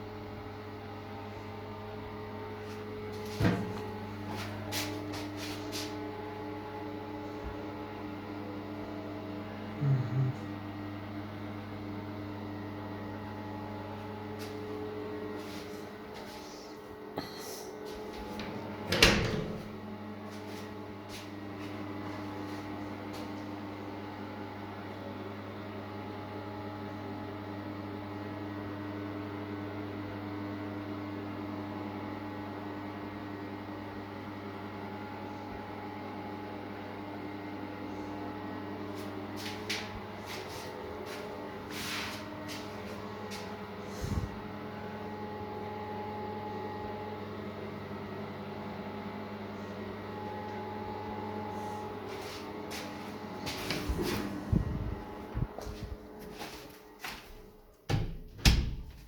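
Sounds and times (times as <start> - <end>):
low mechanical hum with tones: 0.0 - 59.0.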